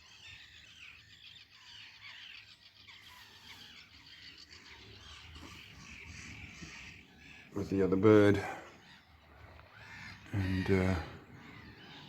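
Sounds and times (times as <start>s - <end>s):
faint songbirds singing: 0.0s - 12.0s.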